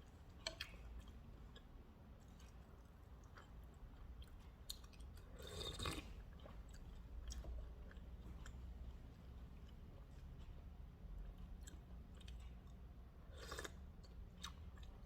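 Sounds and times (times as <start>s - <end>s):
person chewing food: 0.1s - 15.0s.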